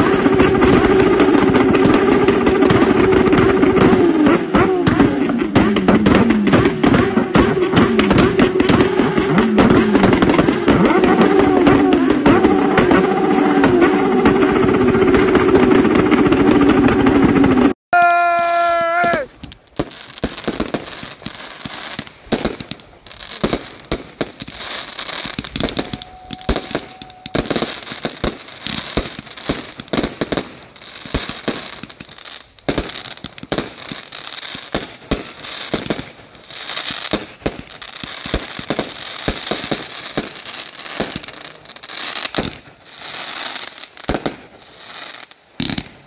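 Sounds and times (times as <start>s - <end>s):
firework pops and crackling: 0.0s - 17.8s, 18.5s - 46.0s.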